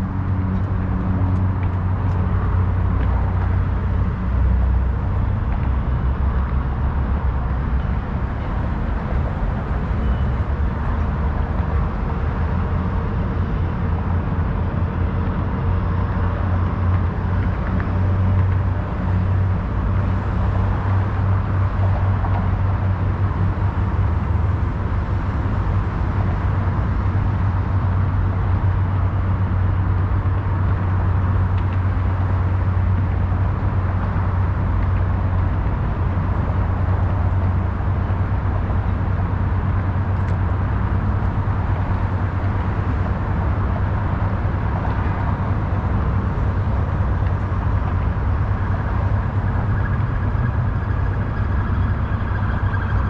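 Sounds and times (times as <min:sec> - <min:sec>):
city traffic rumble and hiss: 0:00.0 - 0:53.0.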